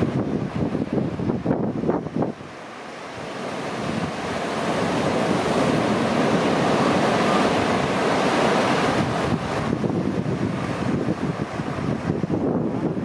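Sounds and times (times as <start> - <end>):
sea surf washing in: 0.0 - 13.0.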